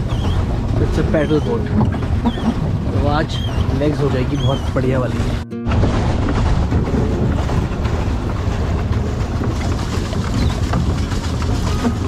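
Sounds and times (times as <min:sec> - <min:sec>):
paddle wheel churning water: 0:00.0 - 0:12.0.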